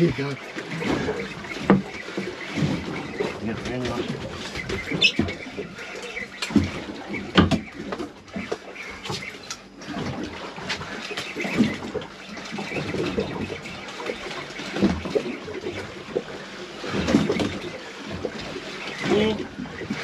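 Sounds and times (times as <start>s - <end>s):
water lapping against boat hull: 0.0s - 20.0s.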